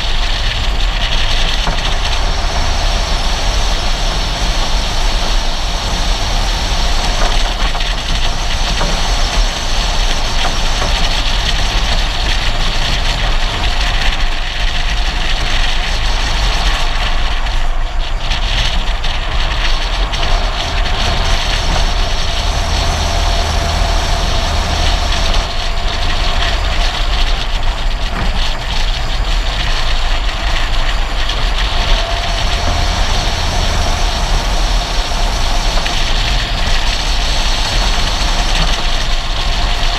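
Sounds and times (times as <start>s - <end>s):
low engine hum: 0.0s - 39.9s.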